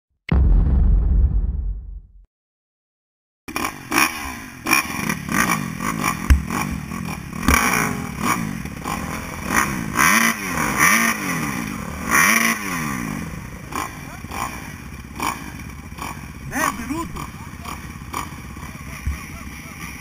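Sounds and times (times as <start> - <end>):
motocross engines revving: 3.5 - 20.0.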